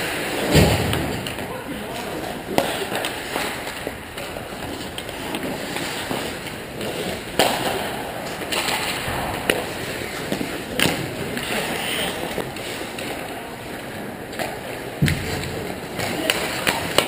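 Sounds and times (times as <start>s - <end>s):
hockey sticks and puck clacking: 0.0s - 17.0s
skates scraping on ice: 0.0s - 17.0s.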